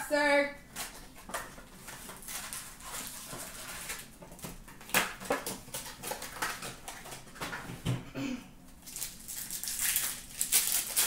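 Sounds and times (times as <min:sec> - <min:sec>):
wrapper rustling and crinkling: 0:00.7 - 0:07.7, 0:08.8 - 0:11.0.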